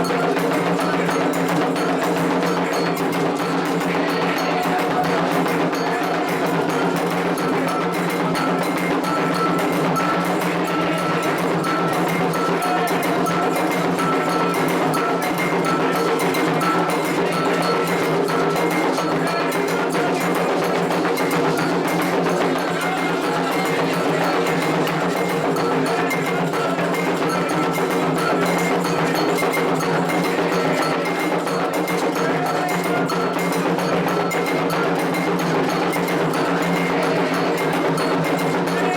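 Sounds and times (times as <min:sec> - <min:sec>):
hand drums playing fast rhythm: 0:00.0 - 0:38.9.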